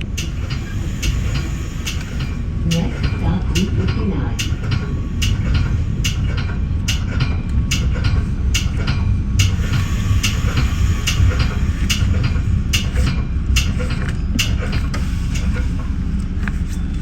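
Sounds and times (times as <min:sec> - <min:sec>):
train car rumbling on track: 0:00.0 - 0:17.0.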